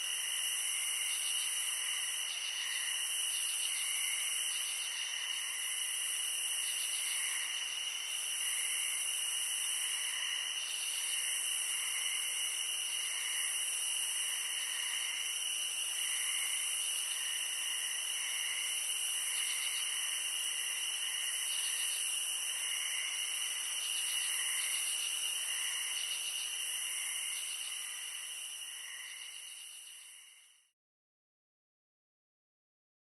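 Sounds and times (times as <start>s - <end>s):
high-pitched insect chorus: 0.0s - 30.7s
soft pulsing insect calls: 0.0s - 30.7s.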